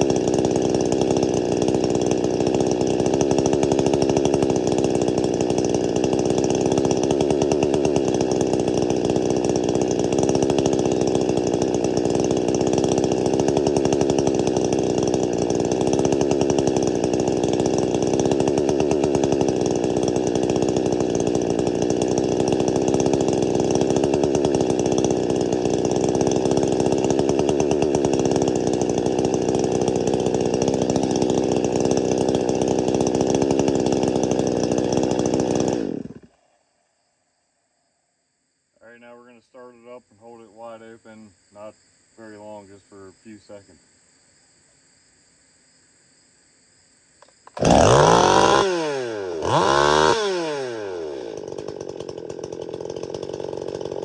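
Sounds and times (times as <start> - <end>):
chainsaw idling: 0.0 - 36.4, 47.2 - 54.0.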